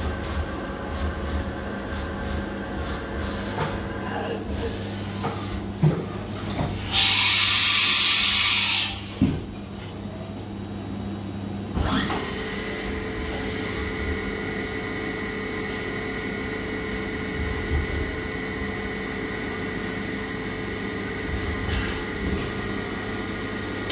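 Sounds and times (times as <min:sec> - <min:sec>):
machine hum: 0:00.0 - 0:23.9.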